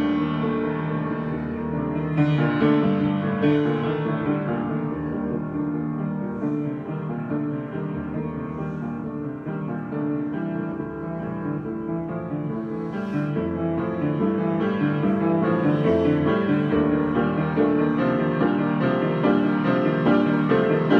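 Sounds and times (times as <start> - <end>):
slow piano improvisation: 0.0 - 20.9.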